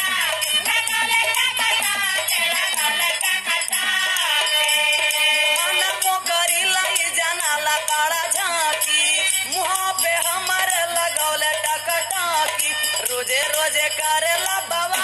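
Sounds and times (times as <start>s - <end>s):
instrumental song with steady beat: 0.0s - 15.0s.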